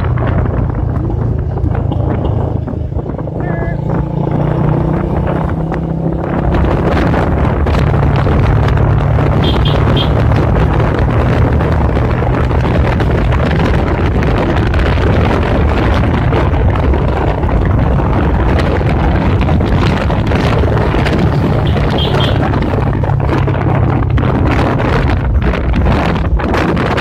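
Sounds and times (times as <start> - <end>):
motorcycle engine cruising: 0.0 - 27.0
wind rushing on microphone: 0.0 - 27.0.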